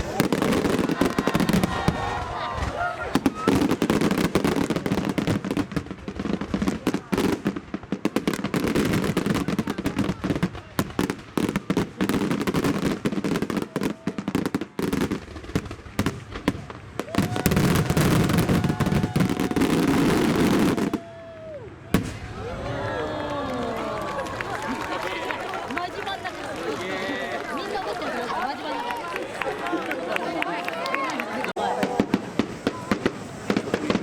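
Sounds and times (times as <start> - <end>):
fireworks bursting and crackling: 0.0 - 29.7, 31.5 - 34.0.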